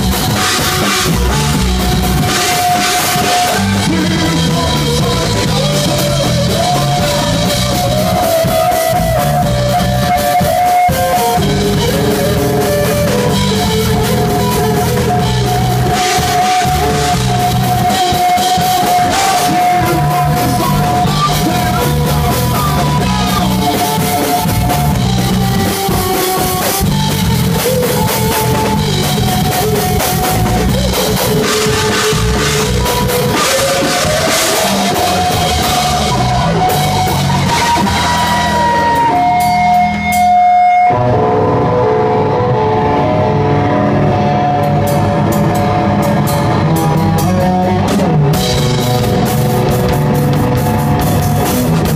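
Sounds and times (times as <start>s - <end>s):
distorted electric guitar: 0.0s - 51.9s
drum kit pounding: 0.0s - 51.9s
live rock band playing: 0.0s - 51.9s
sustained lead melody: 0.0s - 51.9s.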